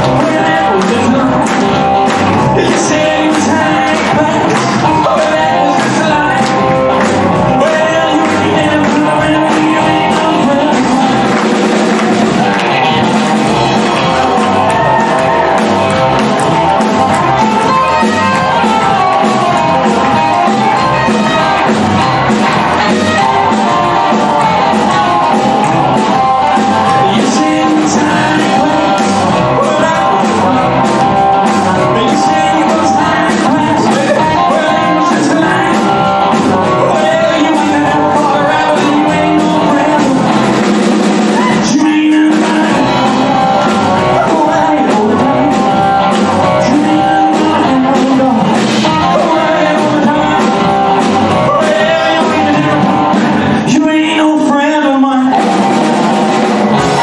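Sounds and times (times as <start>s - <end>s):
live rock and roll band: 0.0s - 57.0s
person singing: 0.0s - 57.0s.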